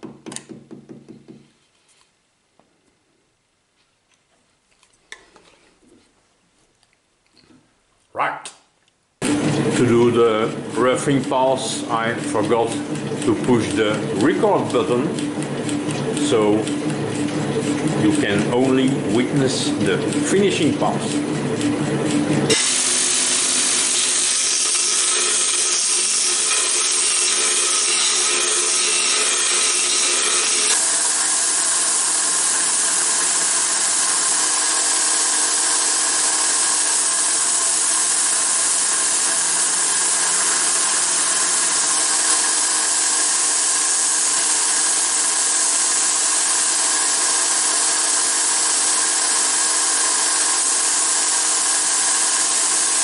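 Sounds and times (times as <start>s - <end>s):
belt grinder grinding steel: 9.2s - 53.0s
abrasive disc grinding steel: 9.3s - 53.0s.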